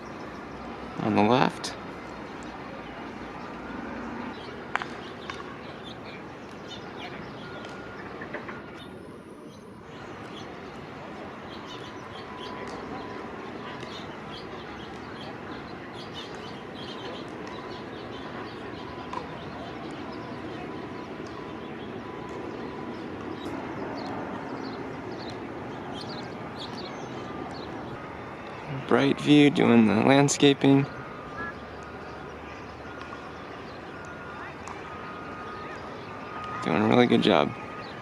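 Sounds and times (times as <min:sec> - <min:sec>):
small birds chirping: 0:00.0 - 0:08.2, 0:08.8 - 0:38.0
outdoor background noise: 0:00.0 - 0:38.0.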